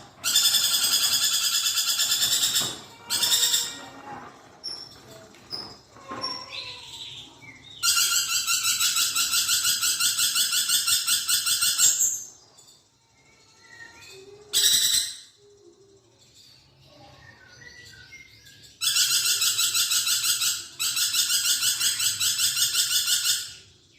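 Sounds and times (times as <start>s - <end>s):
faint chirps: 0.0s - 22.8s
lorikeet pulsing chatter: 0.0s - 23.9s.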